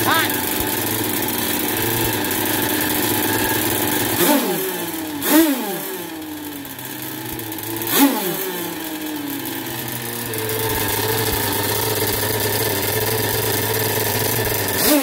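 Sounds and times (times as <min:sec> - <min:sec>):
model boat engine revving and idling: 0:00.0 - 0:15.0.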